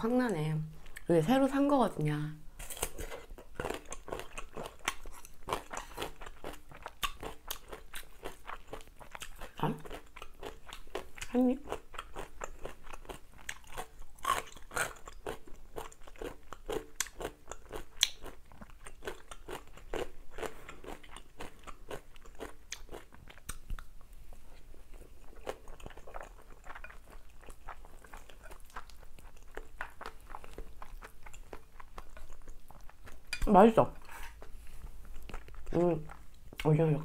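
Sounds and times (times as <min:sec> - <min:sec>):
chewing crunches and mouth clicks: 0:02.6 - 0:37.0.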